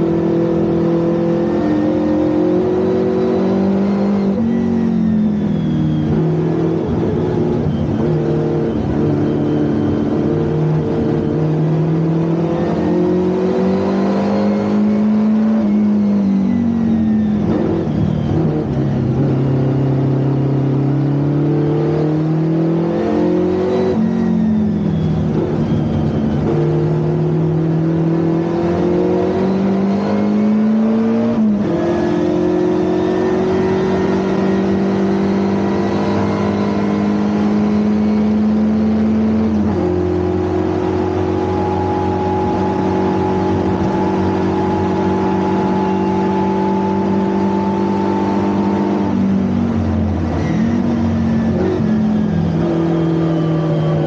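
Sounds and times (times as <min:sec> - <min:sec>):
race car engine revving: 0:00.0 - 0:16.2, 0:17.3 - 0:24.4, 0:25.2 - 0:54.0.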